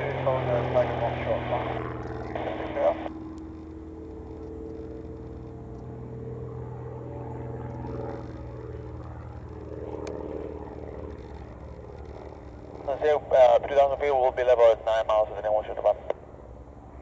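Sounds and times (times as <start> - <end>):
distant propeller aircraft droning: 0.0 - 17.0.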